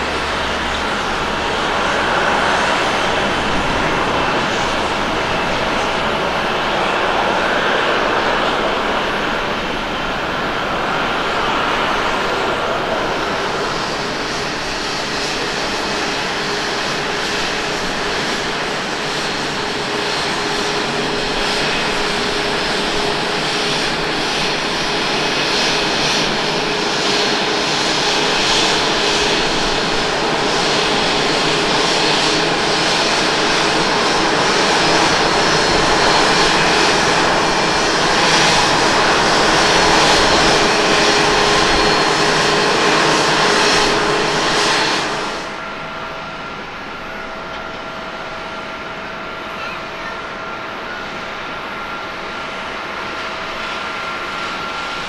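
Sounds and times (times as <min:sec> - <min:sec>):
airliner jet engine whine: 0:00.0 - 0:55.0.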